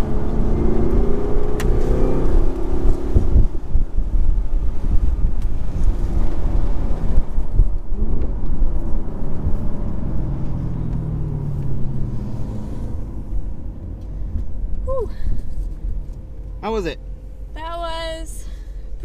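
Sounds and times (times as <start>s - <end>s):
car engine running: 0.0s - 19.0s
road rumble noise: 0.0s - 19.0s.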